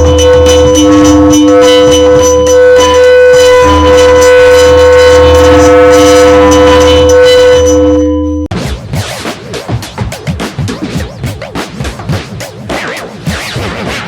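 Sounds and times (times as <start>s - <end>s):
loud electronic music: 0.0s - 7.8s, 8.5s - 14.0s.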